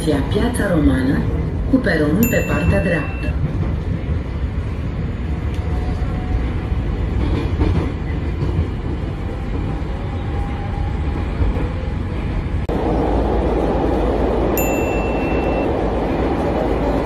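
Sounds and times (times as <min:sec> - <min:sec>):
train wheels rumbling: 0:00.7 - 0:17.0.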